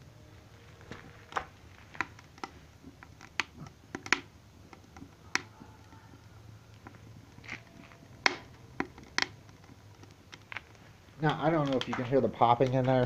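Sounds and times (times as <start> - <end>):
firewood popping in stove: 0.7 - 13.0.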